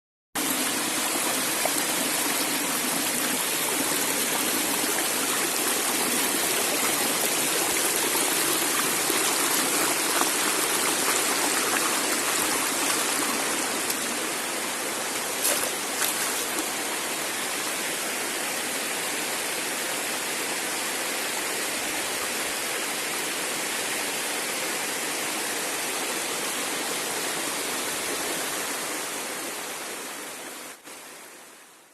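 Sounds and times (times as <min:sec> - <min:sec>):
rushing water: 0:00.4 - 0:31.8.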